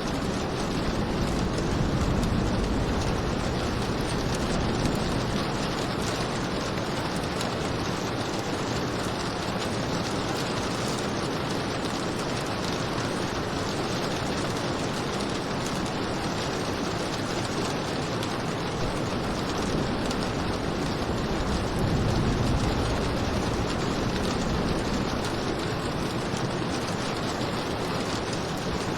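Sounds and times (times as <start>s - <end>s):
heavy rain hissing: 0.0s - 28.9s.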